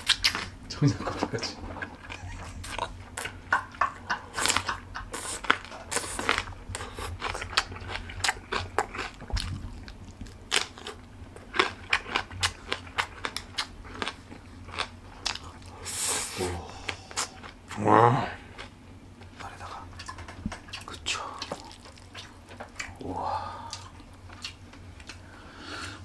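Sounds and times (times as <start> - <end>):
chili pepper crunching and chewing: 0.0 - 25.3.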